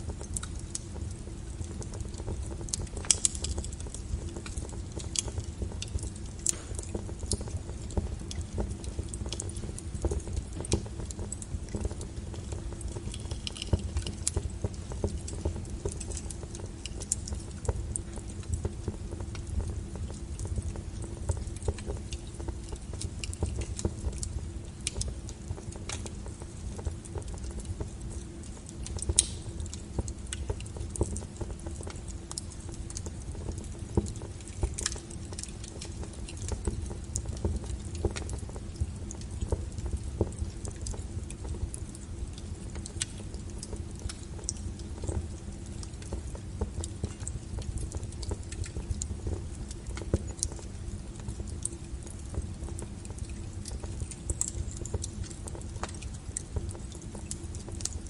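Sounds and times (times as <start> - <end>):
fire pops: 0.0 - 58.0
wood fire crackling: 0.0 - 58.0.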